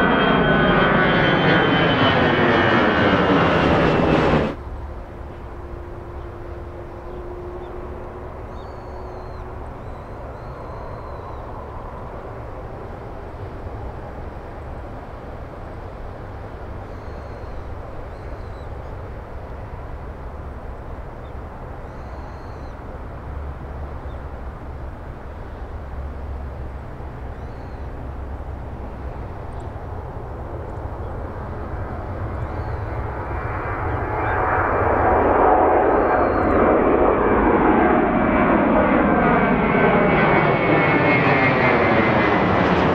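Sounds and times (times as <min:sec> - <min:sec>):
jet engines rumble: 0:00.0 - 0:42.9.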